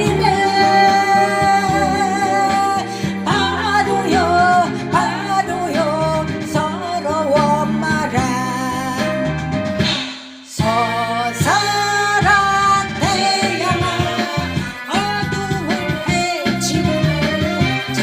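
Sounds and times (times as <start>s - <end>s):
person singing: 0.0s - 9.4s, 10.5s - 18.0s
accompaniment with stepping bass: 0.0s - 18.0s.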